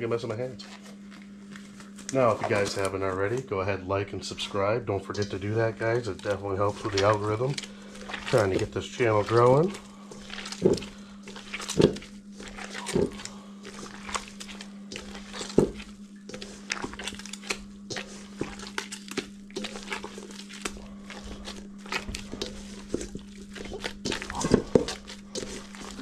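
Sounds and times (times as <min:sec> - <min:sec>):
dough squishing: 0:00.0 - 0:03.6, 0:04.4 - 0:26.0
steady low hum: 0:00.0 - 0:26.0.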